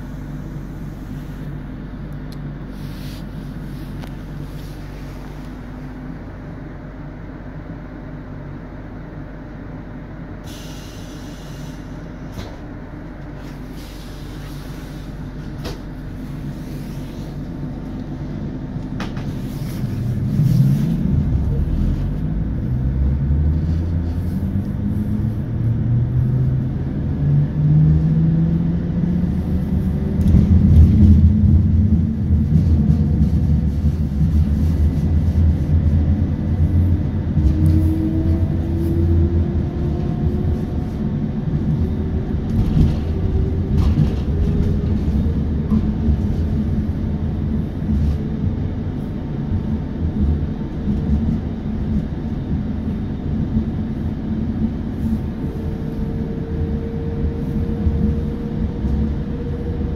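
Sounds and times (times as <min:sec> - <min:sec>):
rumble of train running gear: 0:00.0 - 0:59.9.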